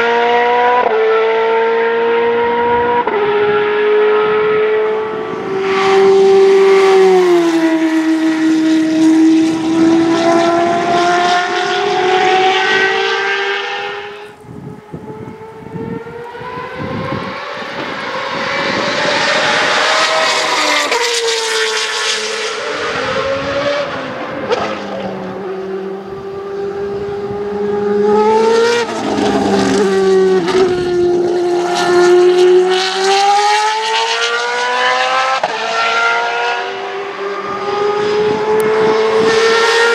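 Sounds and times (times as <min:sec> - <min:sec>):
racing engine at high revs: 0:00.0 - 0:39.9.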